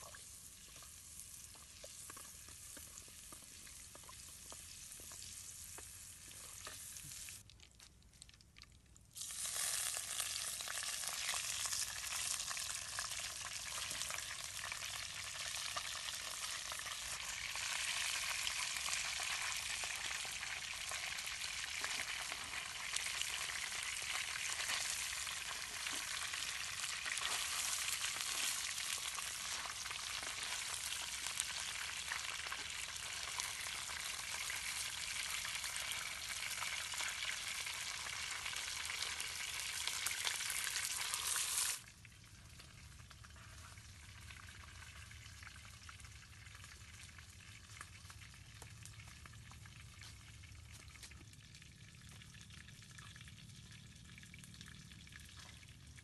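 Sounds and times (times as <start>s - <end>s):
fish deep-frying in hot oil: 0.0s - 56.0s.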